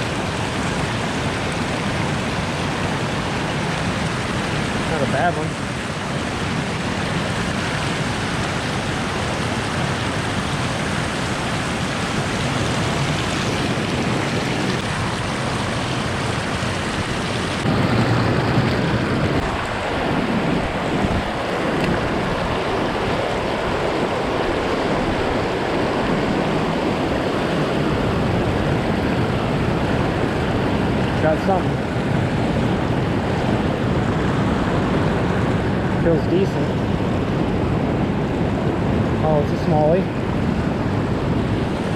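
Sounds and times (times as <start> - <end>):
river water rushing: 0.0 - 41.9
wind rumbling on microphone: 0.0 - 41.9.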